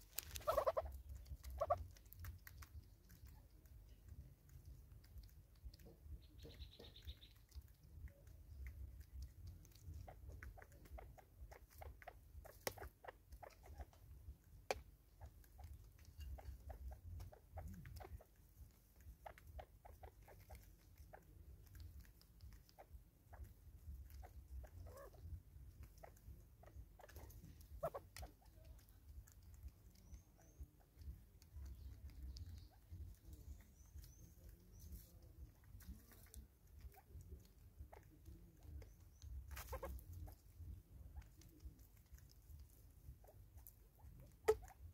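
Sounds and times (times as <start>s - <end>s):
birds pecking and tapping: 0.0s - 44.9s.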